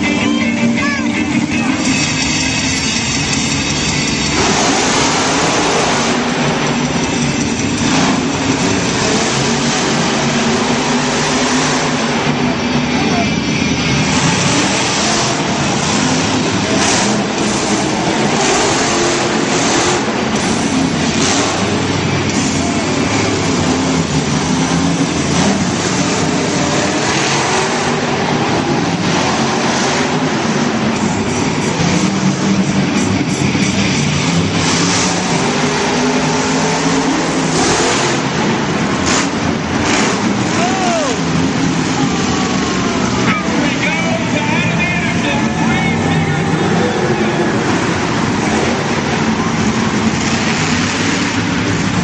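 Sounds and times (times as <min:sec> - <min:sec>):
monster truck engine revving: 0:00.0 - 0:52.0.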